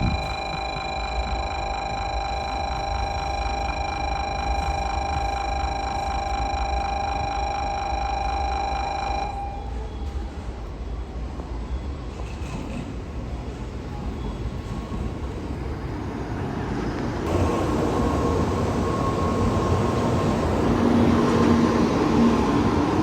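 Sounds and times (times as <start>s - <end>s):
bullet train approaching: 0.0s - 23.0s.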